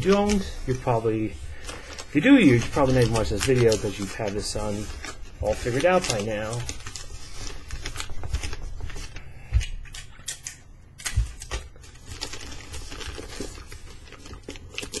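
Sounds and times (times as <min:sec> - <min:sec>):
newspaper wrapping crinkling: 0:00.0 - 0:15.0.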